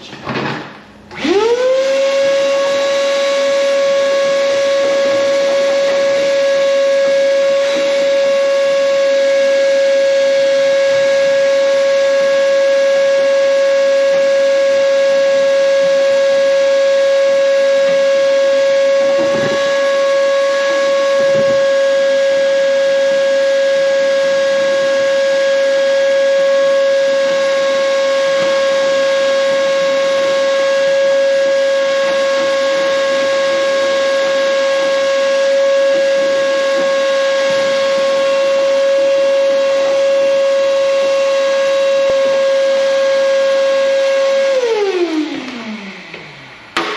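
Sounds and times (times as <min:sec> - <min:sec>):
electric motor whine: 0:01.1 - 0:46.9.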